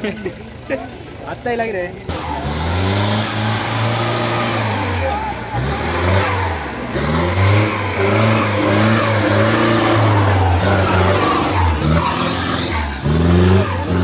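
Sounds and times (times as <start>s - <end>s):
engine revving hard: 2.1s - 14.0s.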